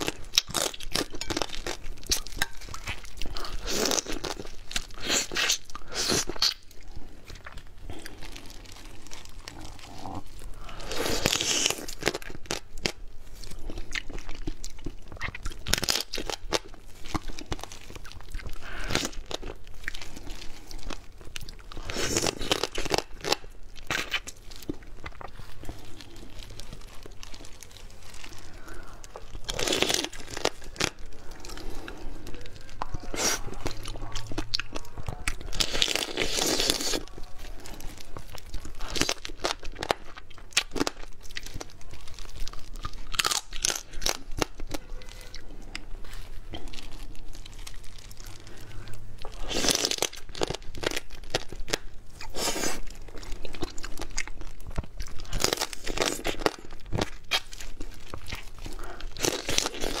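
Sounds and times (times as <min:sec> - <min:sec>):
crunching and chewing: 0:00.0 - 1:00.0.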